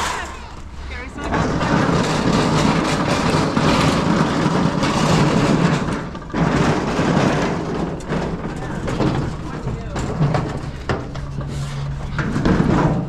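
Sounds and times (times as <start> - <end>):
heavy rumble: 0.0 - 13.0
scrap metal clattering and scraping: 0.0 - 13.0.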